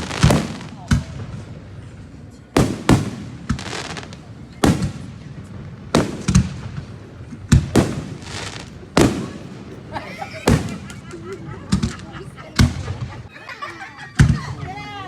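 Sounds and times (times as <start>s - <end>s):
fireworks bangs: 0.0s - 13.3s, 14.1s - 15.0s.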